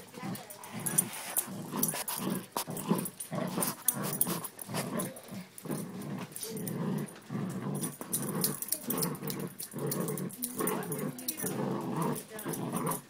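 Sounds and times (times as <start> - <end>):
dog growling: 0.0 - 13.0.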